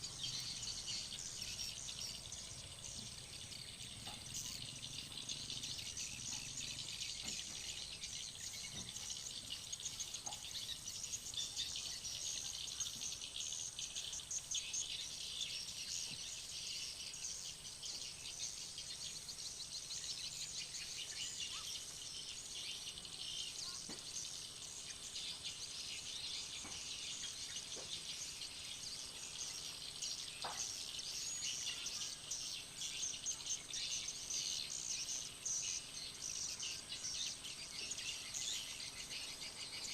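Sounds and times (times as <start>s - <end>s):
thin steady high whine: 0.0s - 39.9s.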